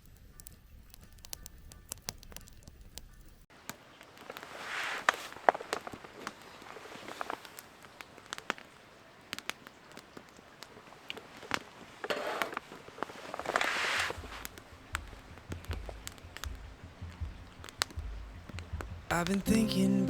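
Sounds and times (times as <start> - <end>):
burning wood popping: 0.0 - 20.0
campfire crackling: 0.0 - 20.0.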